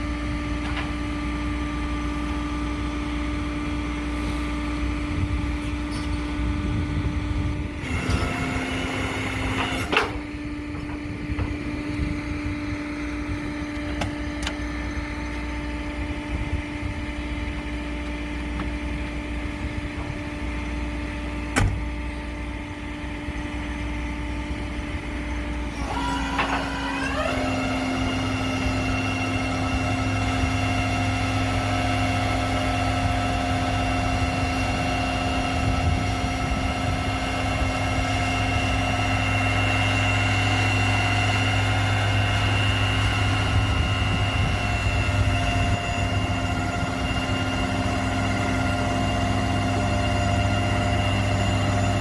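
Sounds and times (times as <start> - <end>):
motor vehicle whining: 0.0 - 52.0.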